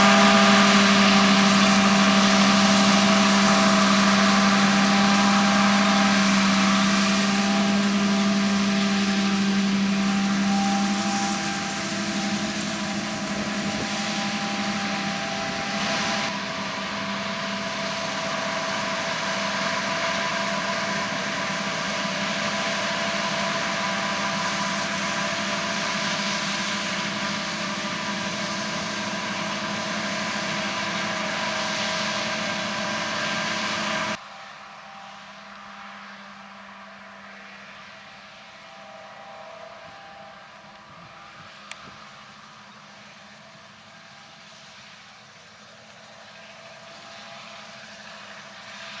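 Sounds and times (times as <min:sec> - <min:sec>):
harvest machinery running: 0:00.0 - 0:49.0.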